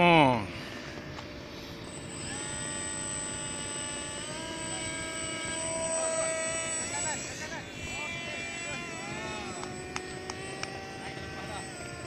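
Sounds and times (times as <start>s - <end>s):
electric motor and propeller whine: 0.0s - 12.0s.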